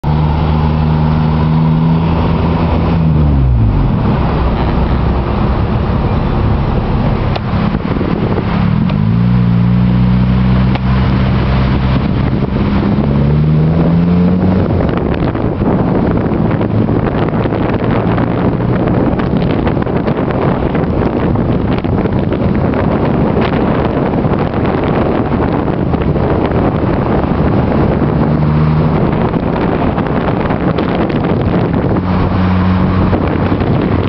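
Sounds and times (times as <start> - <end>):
car engine: 0.0 - 34.0
tyre and wind rush: 0.0 - 34.0.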